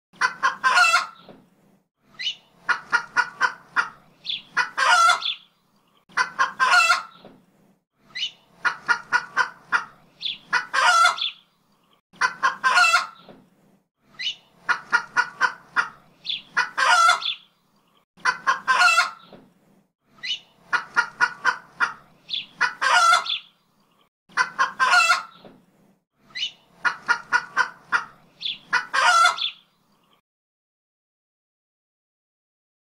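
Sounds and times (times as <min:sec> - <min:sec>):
chickens clucking: 0:00.2 - 0:01.5, 0:02.2 - 0:07.5, 0:08.2 - 0:13.5, 0:14.2 - 0:19.5, 0:20.2 - 0:25.7, 0:26.4 - 0:30.2.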